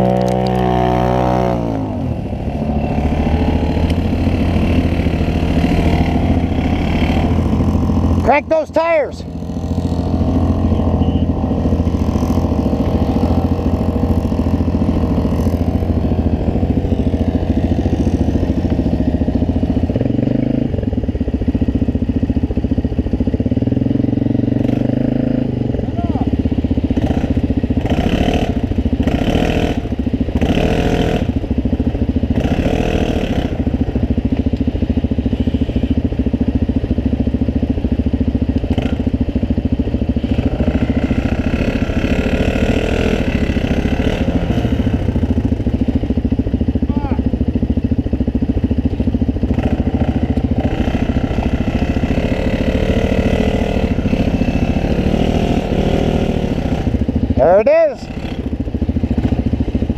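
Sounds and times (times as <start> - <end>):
atv engine running hard: 0.0 - 59.9.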